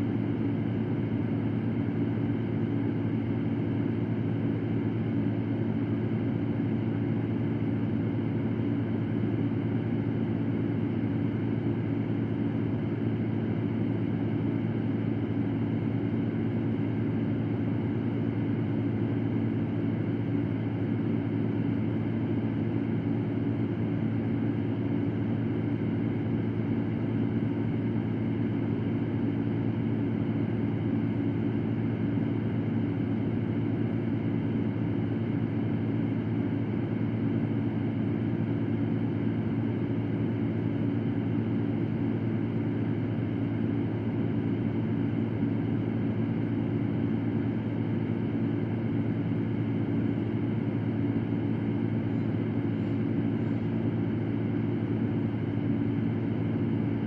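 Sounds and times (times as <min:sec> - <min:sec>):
fan motor hum: 0:00.0 - 0:57.0.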